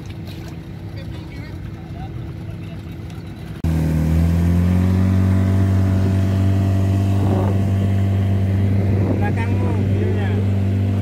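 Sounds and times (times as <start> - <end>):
outboard motor running: 0.0 - 11.0
wind and water wash: 0.0 - 11.0.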